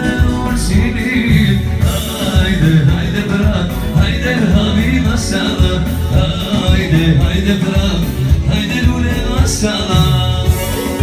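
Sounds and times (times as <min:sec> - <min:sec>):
live band playing folk dance music: 0:00.0 - 0:11.0.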